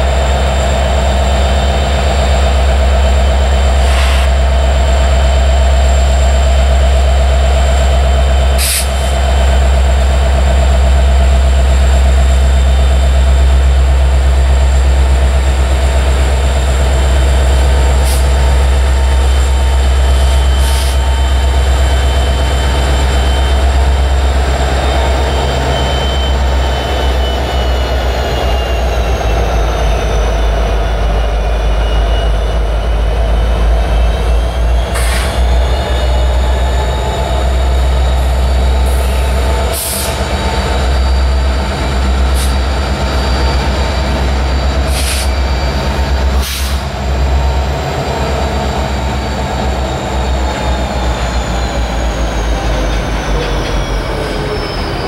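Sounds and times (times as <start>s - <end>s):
diesel locomotive engine drone: 0.0s - 55.0s
high whine: 0.0s - 55.0s.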